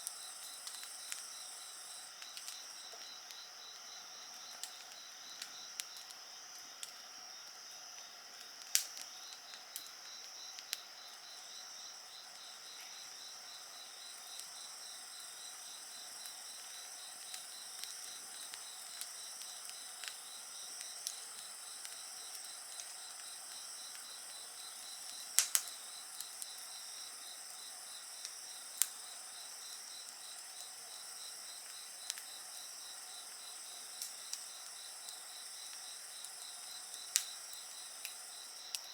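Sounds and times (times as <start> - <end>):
crickets and insects singing: 0.0 - 38.9
wood fire crackling and popping: 0.0 - 38.9.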